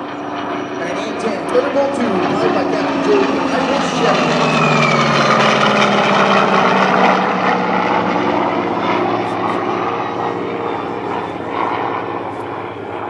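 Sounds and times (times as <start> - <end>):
jet noise: 0.0 - 13.0
propeller engine drone: 0.0 - 13.0.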